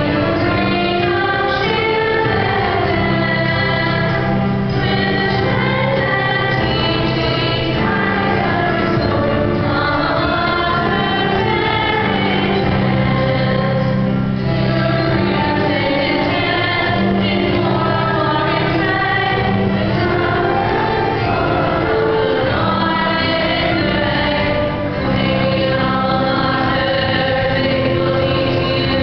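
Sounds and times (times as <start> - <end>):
choir singing a hymn: 0.0 - 29.0
held low accompaniment notes: 0.0 - 29.0.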